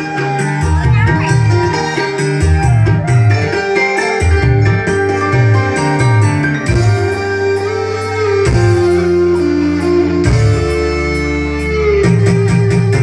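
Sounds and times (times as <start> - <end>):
loud music with guitar and cymbals: 0.0 - 13.0.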